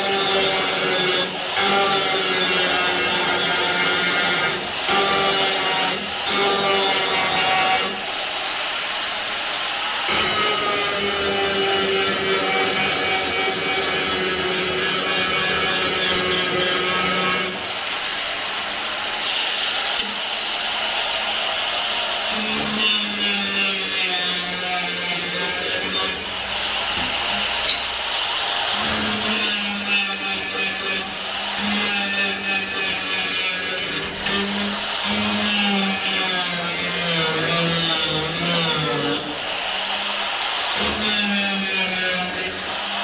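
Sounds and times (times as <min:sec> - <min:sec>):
power tool whining on steel: 0:00.0 - 0:43.0.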